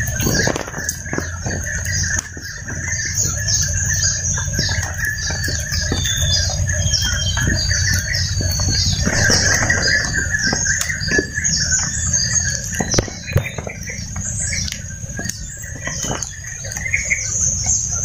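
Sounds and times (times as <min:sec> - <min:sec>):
campfire crackling: 0:00.0 - 0:18.0
insect chorus: 0:00.0 - 0:18.0.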